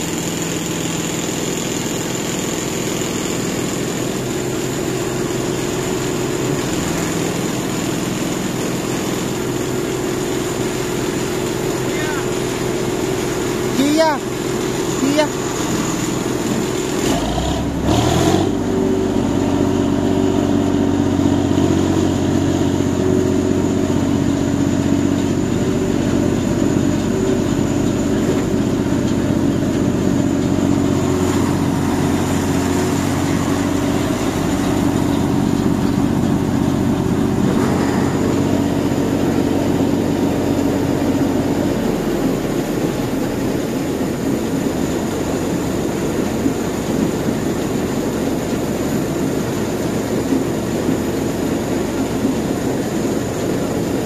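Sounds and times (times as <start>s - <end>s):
combine harvester engine: 0.0s - 54.0s.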